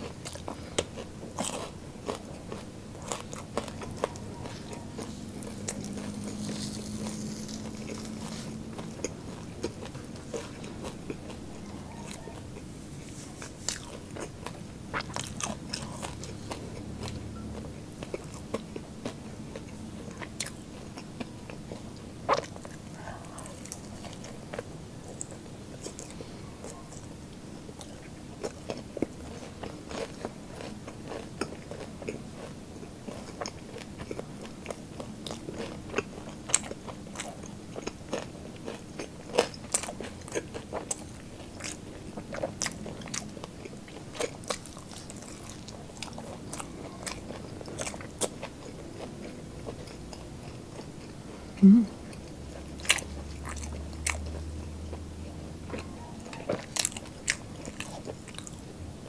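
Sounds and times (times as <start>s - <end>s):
chewing crispy food: 0.0s - 59.0s.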